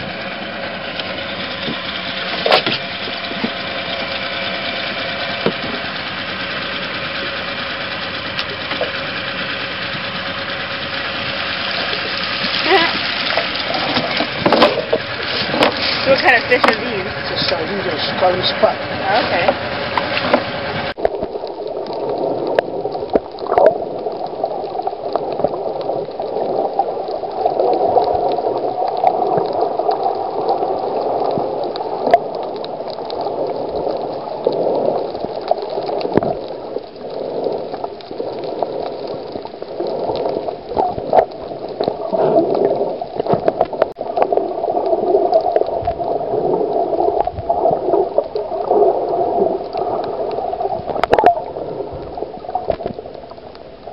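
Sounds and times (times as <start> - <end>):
muffled underwater rushing: 0.0 - 53.9.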